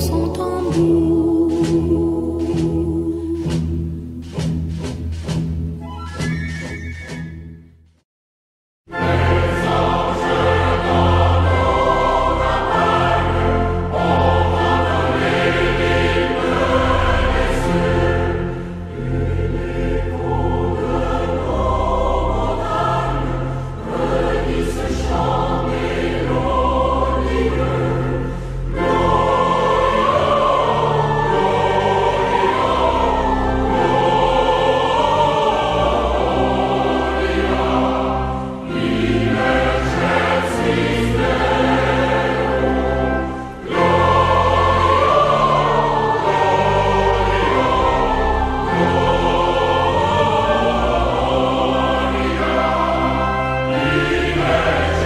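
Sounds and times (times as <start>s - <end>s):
choir singing with accompaniment: 0.0s - 7.1s, 8.9s - 55.0s.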